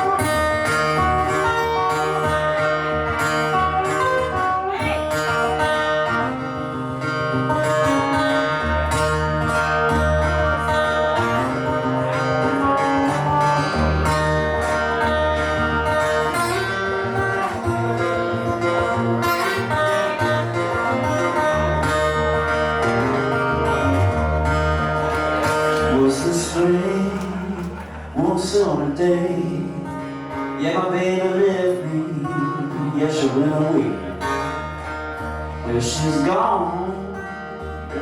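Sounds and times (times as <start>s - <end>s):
bass line: 0.0s - 38.0s
blues guitar: 0.0s - 38.0s.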